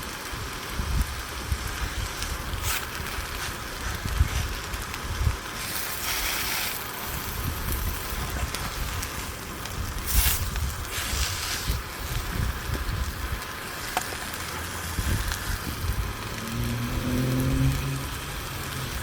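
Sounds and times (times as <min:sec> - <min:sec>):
steady hiss: 0:00.0 - 0:19.0
wind buffeting microphone: 0:00.3 - 0:13.7, 0:14.8 - 0:19.0.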